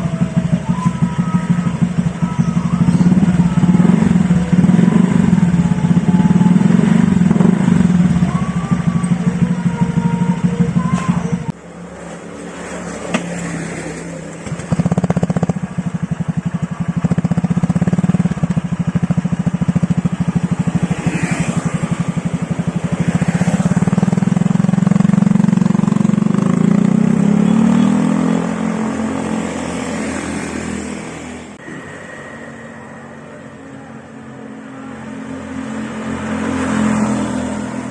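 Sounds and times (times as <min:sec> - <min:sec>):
scooter engine running: 0:00.0 - 0:37.9.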